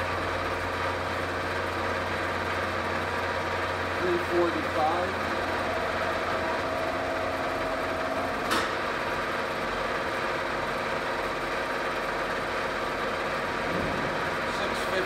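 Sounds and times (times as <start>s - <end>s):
milling machine hum and whine: 0.0s - 15.0s.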